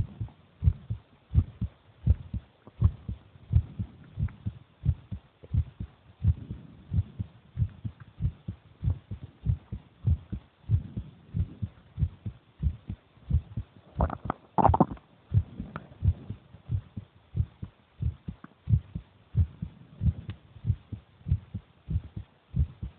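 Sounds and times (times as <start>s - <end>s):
heartbeat thumps: 0.0s - 22.9s.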